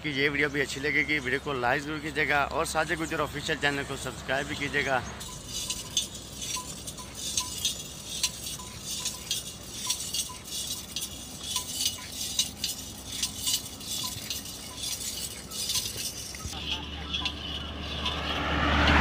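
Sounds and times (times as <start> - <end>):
metallic jingling with walking: 0.0 - 19.0.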